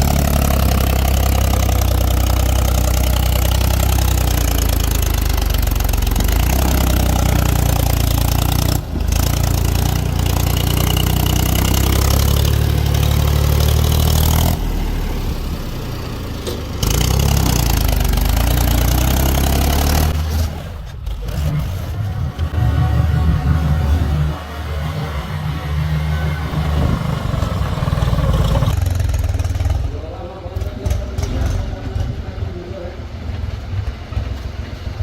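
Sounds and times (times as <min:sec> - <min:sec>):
tractor diesel engine rumbling: 0:00.0 - 0:35.0.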